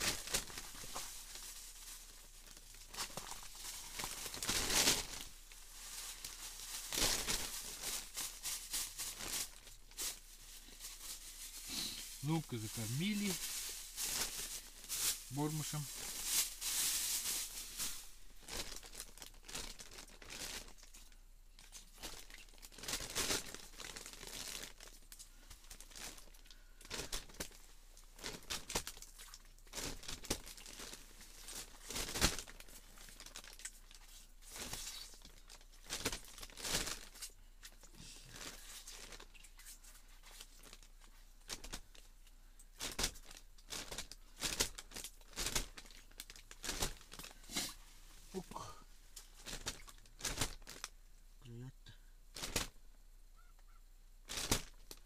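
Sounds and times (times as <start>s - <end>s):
plastic bag crinkling: 0.0s - 42.1s, 42.7s - 47.8s, 49.1s - 50.9s, 52.3s - 52.8s, 54.2s - 55.0s.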